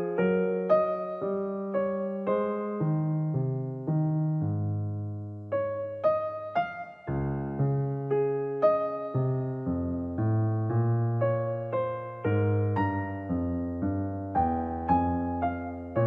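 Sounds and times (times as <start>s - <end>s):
slow keyboard melody: 0.0s - 16.0s.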